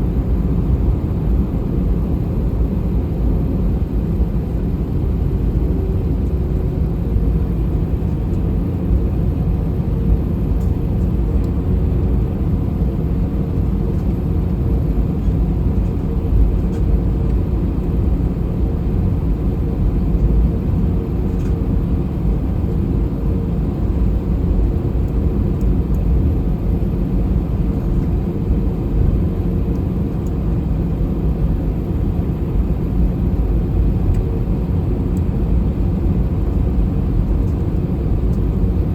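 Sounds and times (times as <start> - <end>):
low rumble of aircraft cabin: 0.0 - 38.9.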